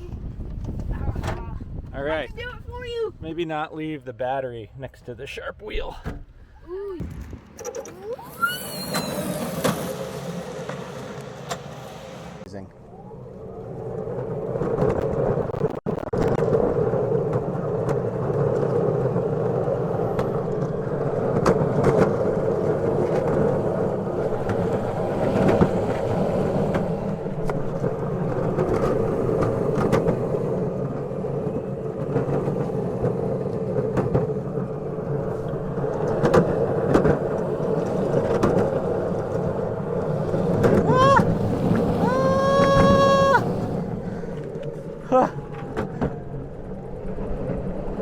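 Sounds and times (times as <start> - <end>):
tyre and road noise: 7.0 - 48.0.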